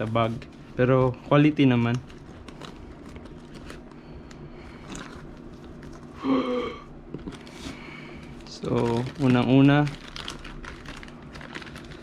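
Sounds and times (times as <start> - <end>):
low steady hum: 0.0 - 12.0
packaging rustling and ticking: 1.4 - 6.1, 7.1 - 12.0.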